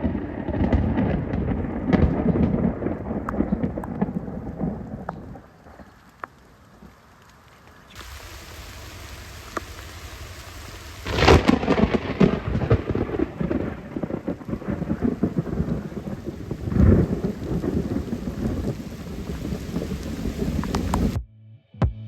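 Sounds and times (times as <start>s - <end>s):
thunder cracking and rumbling: 0.0s - 5.9s, 8.0s - 21.2s
steady rain falling: 0.0s - 21.2s.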